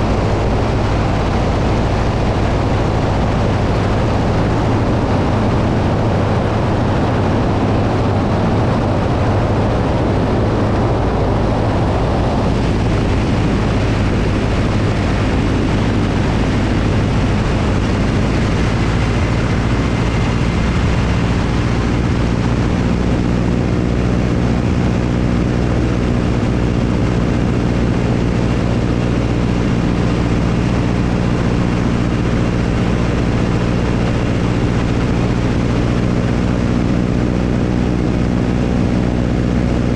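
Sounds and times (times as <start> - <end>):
propeller airplane engine droning: 0.0 - 39.9
wind rush on microphone: 0.0 - 39.9.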